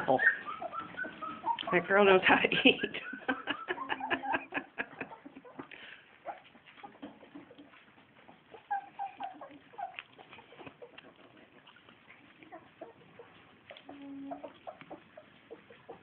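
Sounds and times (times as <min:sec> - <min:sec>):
puppies smacking and lapping: 0:00.0 - 0:16.0
puppies squeaking: 0:00.0 - 0:16.0.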